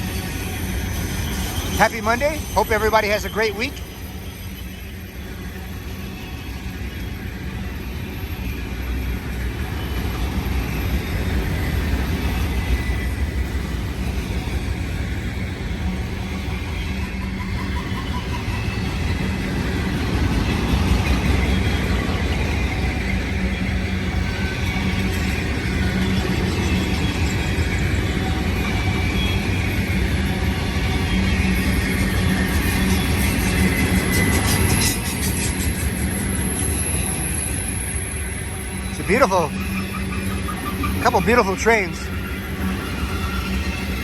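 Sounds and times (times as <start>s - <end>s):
freight train wheels rumbling on rail: 0.0s - 44.0s.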